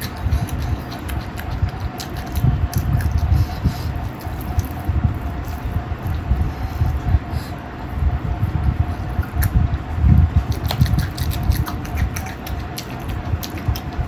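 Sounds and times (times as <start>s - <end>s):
chewing and lip-smacking: 0.0s - 7.6s, 8.4s - 14.0s
low chewing thumps: 0.0s - 14.0s.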